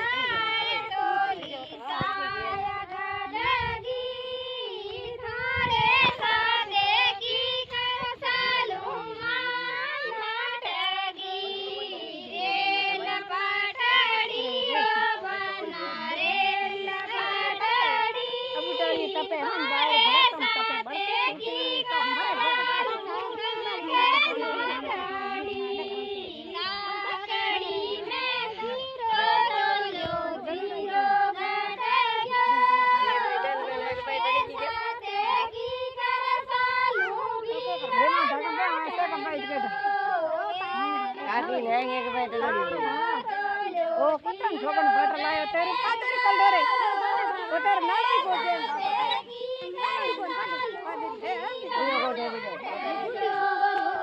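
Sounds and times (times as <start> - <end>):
women singing folk melody: 0.0 - 54.0.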